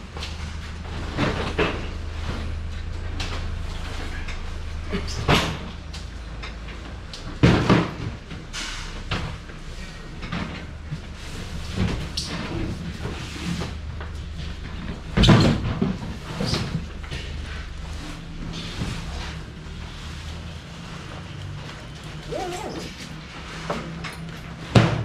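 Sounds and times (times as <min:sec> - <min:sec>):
doors and crates banging: 0:00.1 - 0:17.7, 0:20.9 - 0:25.0.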